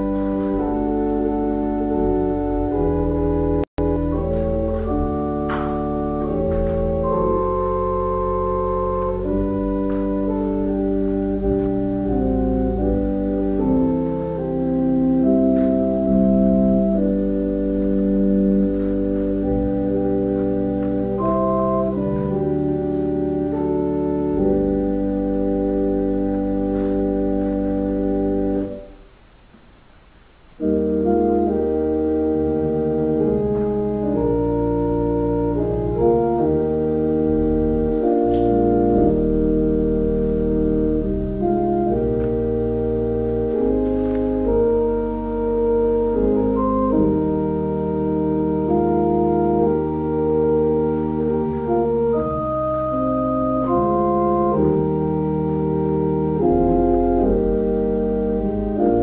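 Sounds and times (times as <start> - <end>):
church organ chords: 0.0 - 29.2, 30.2 - 59.0.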